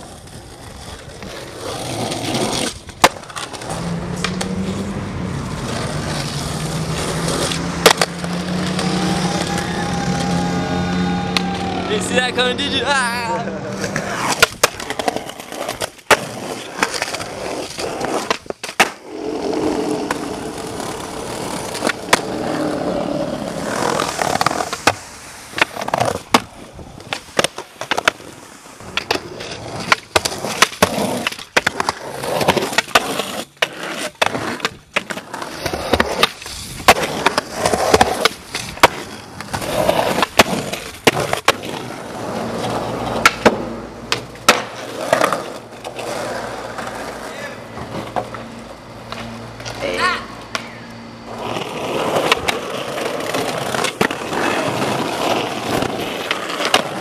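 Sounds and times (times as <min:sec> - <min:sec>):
skateboard clacking: 0:00.0 - 0:04.9, 0:05.6 - 0:57.0
skateboard wheels rolling: 0:00.0 - 0:57.0.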